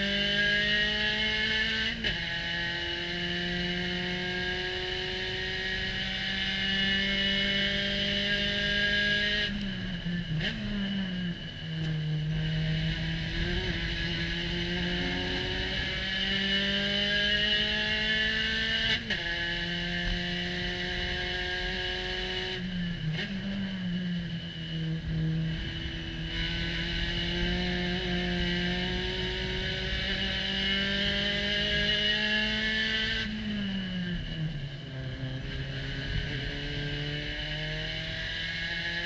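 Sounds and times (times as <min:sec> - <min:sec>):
race car engine accelerating: 0:00.0 - 0:39.0
wind and road noise: 0:00.0 - 0:39.0.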